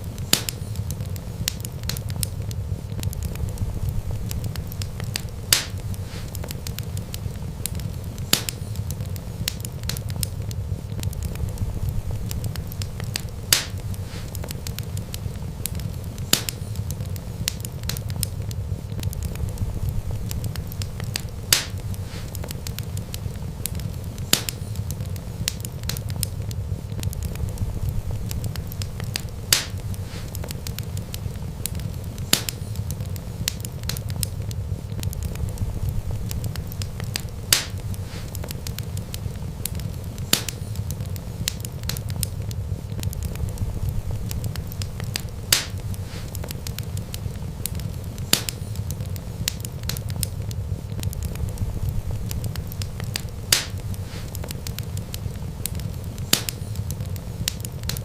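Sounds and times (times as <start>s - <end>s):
sharp pops from fire: 0.0s - 58.0s
wood fire crackling: 0.0s - 58.0s.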